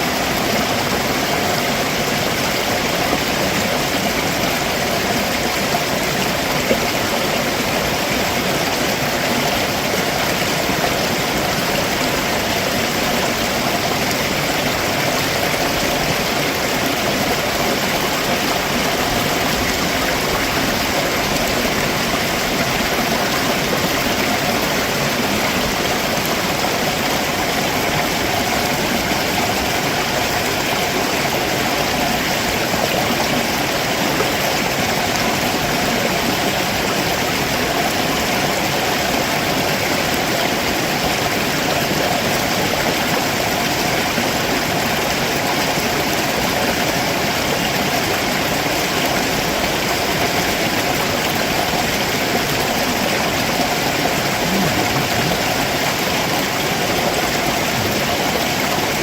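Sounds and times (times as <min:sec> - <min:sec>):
stream water running over rocks: 0:00.0 - 0:59.0.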